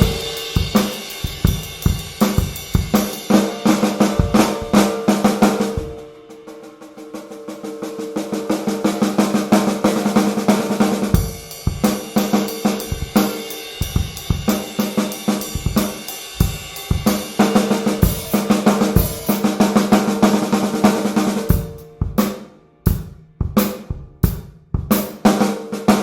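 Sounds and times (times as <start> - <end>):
full drum kit groove: 0.0 - 26.0
snare drum played fast: 0.0 - 26.0.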